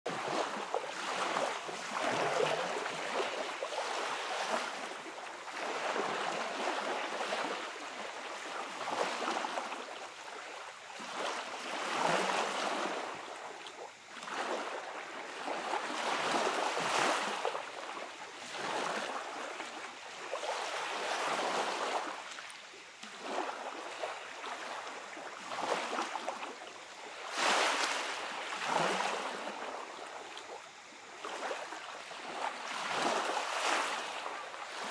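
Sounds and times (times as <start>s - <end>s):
small waves washing on beach: 0.1s - 34.9s.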